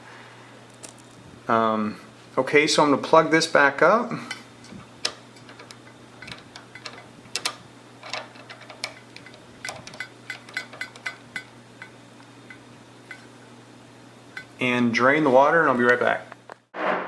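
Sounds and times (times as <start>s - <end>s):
faint steady hum: 0.0s - 16.7s.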